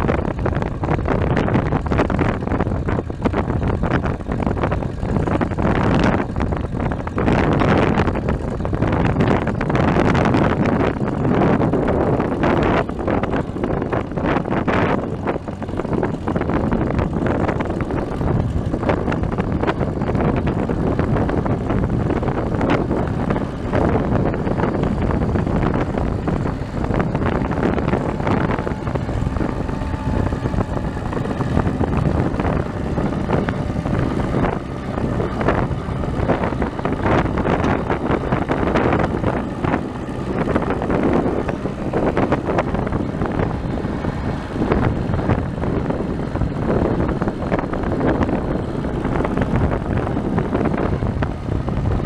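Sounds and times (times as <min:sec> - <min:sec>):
rotary mower cutting grass: 0:00.0 - 0:52.0
tractor engine running: 0:00.0 - 0:52.0.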